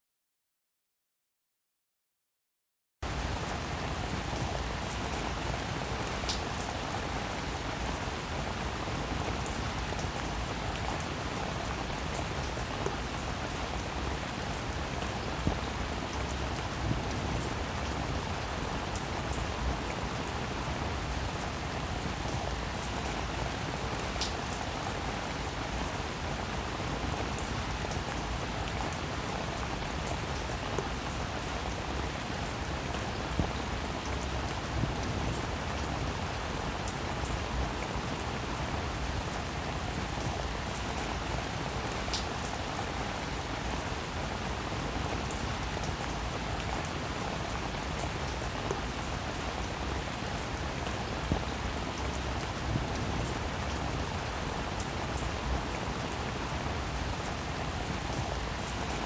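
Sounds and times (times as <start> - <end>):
steady rain hiss: 3.1 - 59.0.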